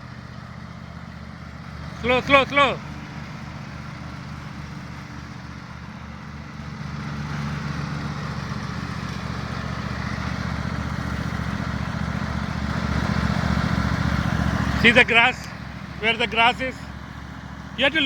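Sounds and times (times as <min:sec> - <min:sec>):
riding lawnmower engine running: 0:00.0 - 0:18.0.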